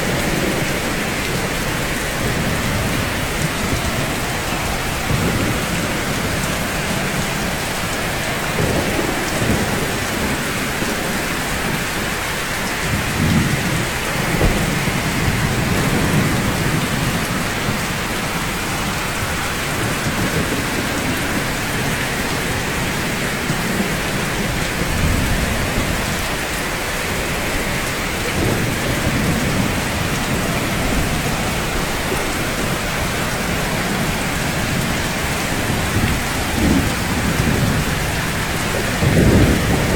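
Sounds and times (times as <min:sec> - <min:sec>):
rain falling on rooftops: 0:00.0 - 0:39.9.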